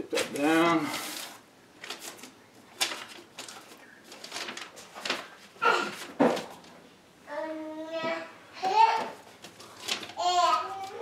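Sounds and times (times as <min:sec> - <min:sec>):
knocks and rustles of handling: 0:00.0 - 0:06.8, 0:08.0 - 0:11.0.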